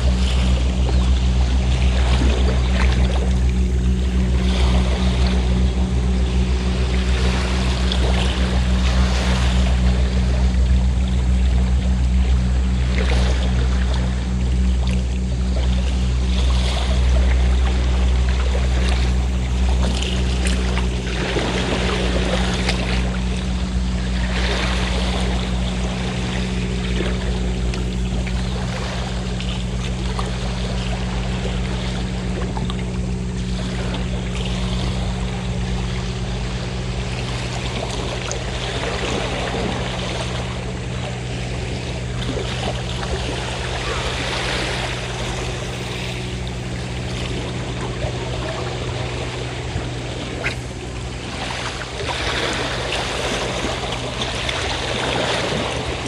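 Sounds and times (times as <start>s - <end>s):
boat engine humming: 0.0s - 56.0s
sea waves washing: 0.0s - 56.0s.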